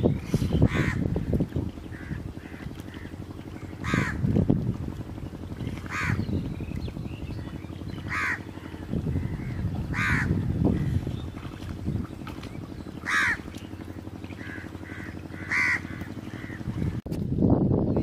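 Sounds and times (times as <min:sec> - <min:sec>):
bird calling: 0:00.0 - 0:04.3, 0:05.2 - 0:16.9
water sloshing: 0:00.0 - 0:17.2.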